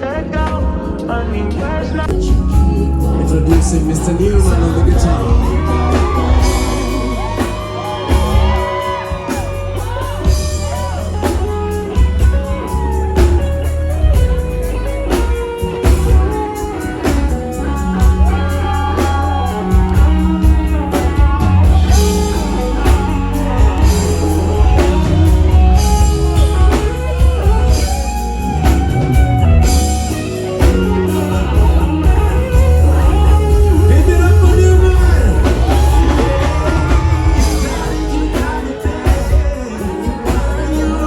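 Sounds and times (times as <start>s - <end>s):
bass line: 0.0s - 41.0s
drums: 0.0s - 41.0s
electric guitar solo: 2.1s - 41.0s.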